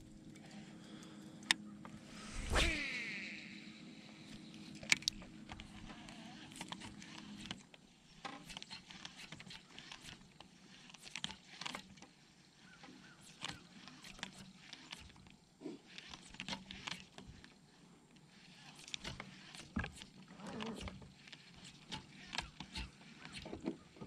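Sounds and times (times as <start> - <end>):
fishing reel clicks and rustles: 0.0 - 24.0.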